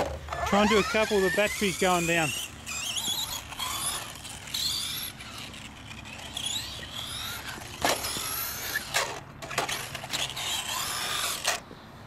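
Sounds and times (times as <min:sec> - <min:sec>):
electric motor whining: 0:00.3 - 0:11.6.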